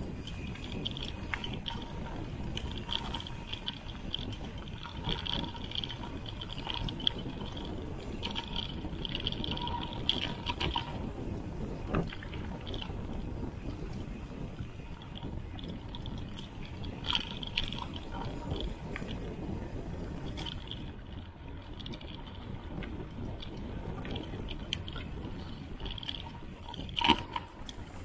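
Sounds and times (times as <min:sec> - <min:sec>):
bike rattling: 0:00.0 - 0:28.0
rumble of tyres and wind: 0:00.0 - 0:28.0.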